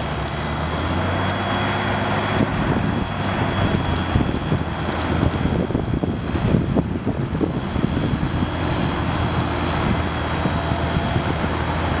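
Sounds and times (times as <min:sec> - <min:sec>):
heavy diesel machinery drone: 0:00.0 - 0:12.0
wind noise on microphone: 0:00.8 - 0:12.0.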